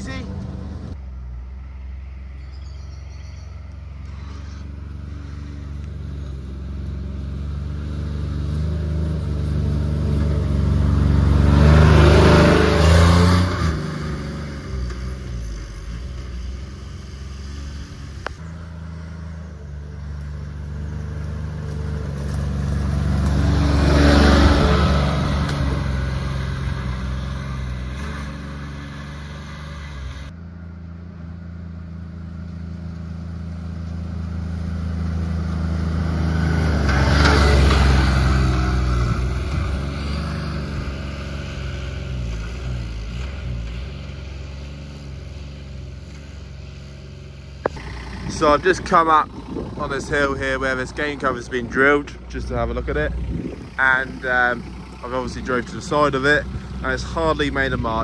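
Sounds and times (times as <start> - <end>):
buggy engine driving by: 0.0 - 58.0.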